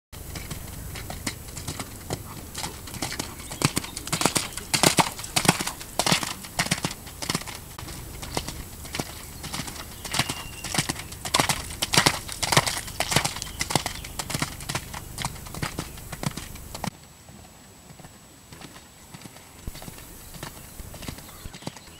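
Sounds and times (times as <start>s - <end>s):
horse hoofbeats on wet sand: 0.2s - 21.9s.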